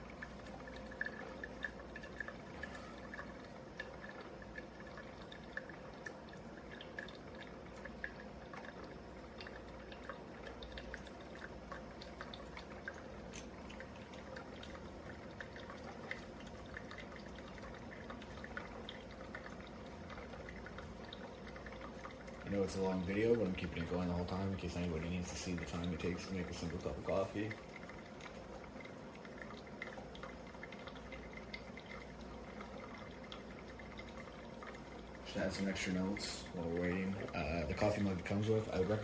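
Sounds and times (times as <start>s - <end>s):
coffee maker dripping: 0.0s - 39.0s
faint irregular ticks: 0.0s - 39.0s.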